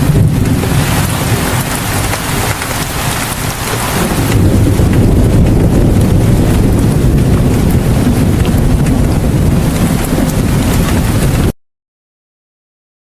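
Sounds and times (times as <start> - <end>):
deep low rumble: 0.0 - 11.5
rain pouring: 0.0 - 11.6.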